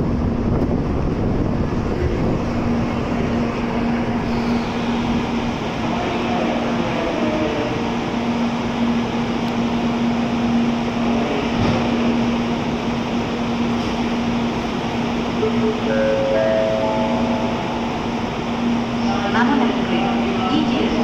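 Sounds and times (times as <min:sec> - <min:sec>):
train equipment humming: 0:00.0 - 0:21.0
station noise: 0:00.8 - 0:21.0.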